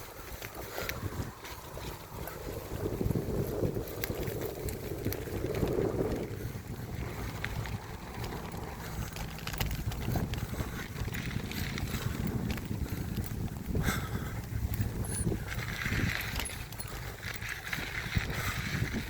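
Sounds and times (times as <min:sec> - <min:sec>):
bike tyres rumbling on dirt: 0:00.0 - 0:19.0
wind on microphone: 0:00.0 - 0:19.0
clicks and rattles: 0:03.4 - 0:19.0.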